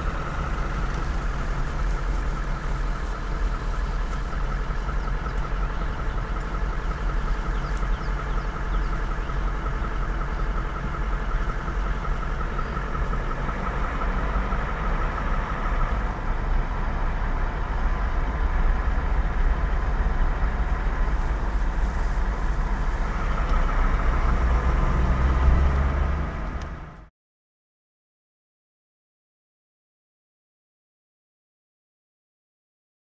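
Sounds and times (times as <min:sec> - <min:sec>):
vehicle engine running: 0:00.0 - 0:27.1.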